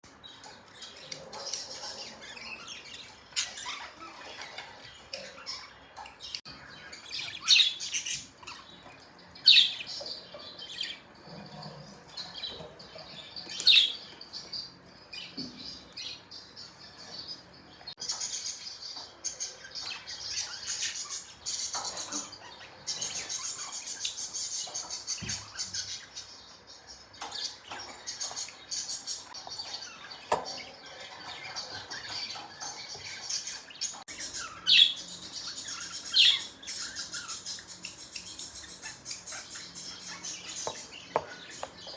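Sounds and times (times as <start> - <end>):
budgerigars chirping: 0.5 - 41.9.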